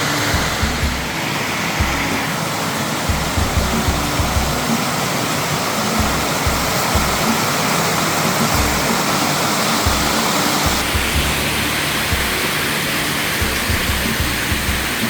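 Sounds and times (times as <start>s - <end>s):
background music: 0.0s - 15.0s
waterfall rushing: 0.0s - 15.0s.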